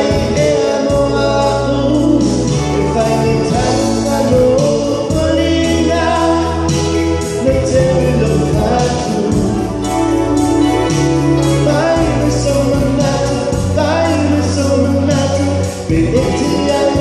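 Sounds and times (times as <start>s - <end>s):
instrumental accompaniment: 0.0s - 17.0s
man singing into microphone: 0.0s - 17.0s.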